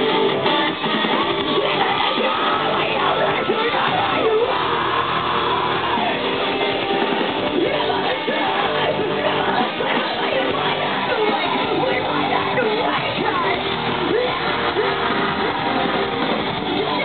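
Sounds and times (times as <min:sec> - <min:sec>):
crowd yelling and singing: 0:00.0 - 0:17.0
live rock band: 0:00.0 - 0:17.0.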